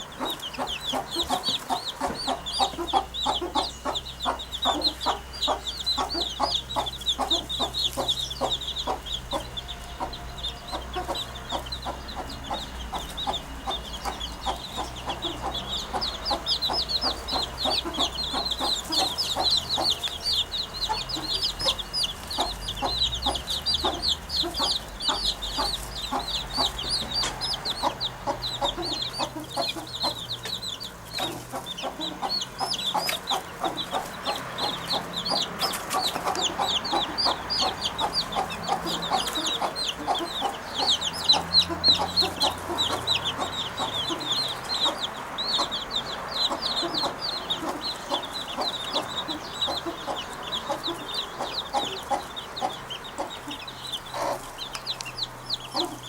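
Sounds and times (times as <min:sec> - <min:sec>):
birds clucking and chirping: 0:00.0 - 0:56.0.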